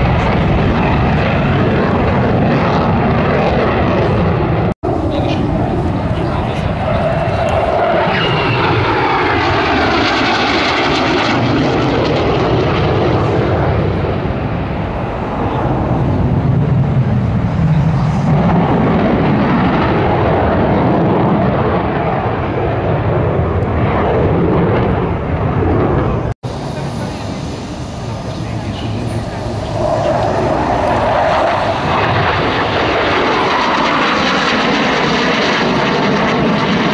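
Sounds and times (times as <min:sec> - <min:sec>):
aircraft engine flying past: 0:00.0 - 0:36.9.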